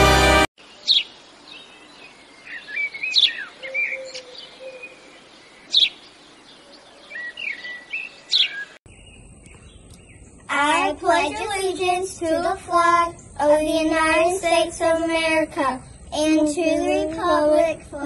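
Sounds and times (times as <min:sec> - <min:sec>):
birds chirping and twittering: 0:00.6 - 0:17.9.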